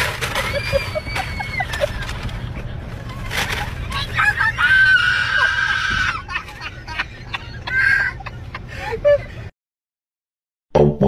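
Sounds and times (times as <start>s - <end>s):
vehicle engine hum: 0.0s - 9.5s.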